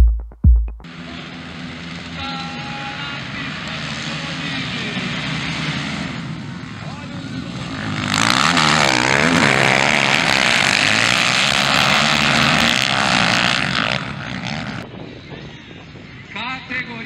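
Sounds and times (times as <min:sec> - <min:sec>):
motocross bikes racing past: 0:00.9 - 0:14.8.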